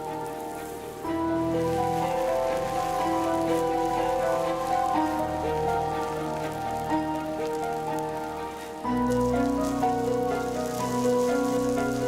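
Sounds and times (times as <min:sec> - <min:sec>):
background music held chords: 0:00.0 - 0:12.0
soft hiss: 0:00.0 - 0:12.0.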